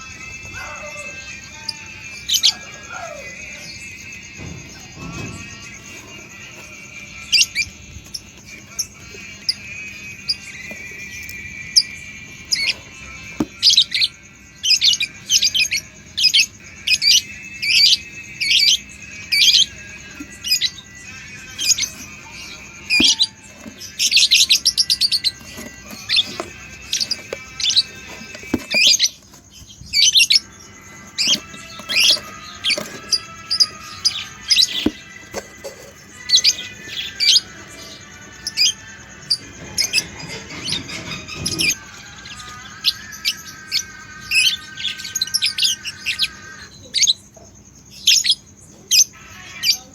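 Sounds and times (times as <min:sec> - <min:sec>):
budgerigars chirping: 0:00.0 - 0:49.9.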